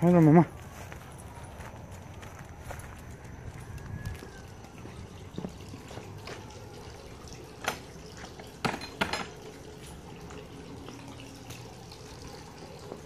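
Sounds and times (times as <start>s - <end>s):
fountain water trickling and dripping: 0.0s - 13.0s.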